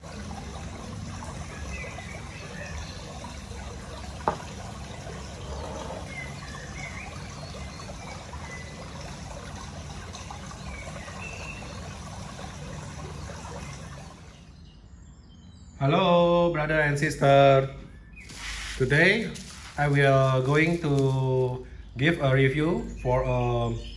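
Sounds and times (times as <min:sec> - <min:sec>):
trickle of running water: 0:00.0 - 0:15.1, 0:17.0 - 0:23.9.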